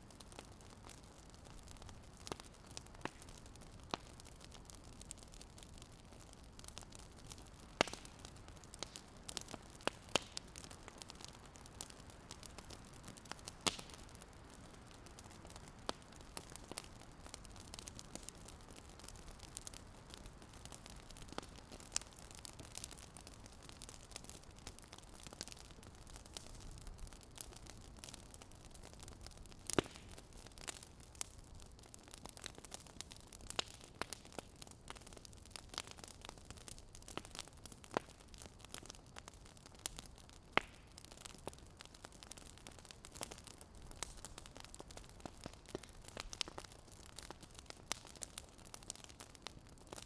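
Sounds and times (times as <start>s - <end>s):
fire crackling: 0.0s - 50.0s
soft steady hiss: 0.0s - 50.0s.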